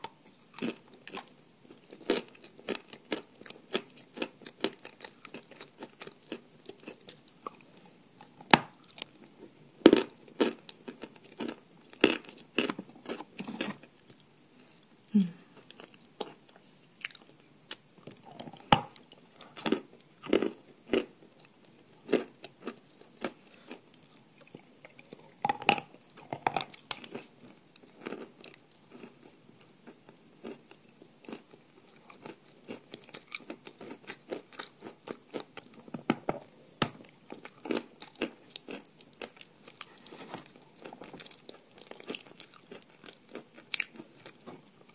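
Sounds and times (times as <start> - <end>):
quiet chewing: 0.0 - 35.9, 37.0 - 44.9.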